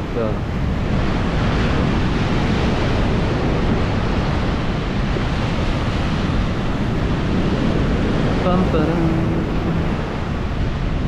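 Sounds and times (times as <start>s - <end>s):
wind buffeting microphone: 0.0s - 11.0s
surf washing onto beach: 0.2s - 11.0s.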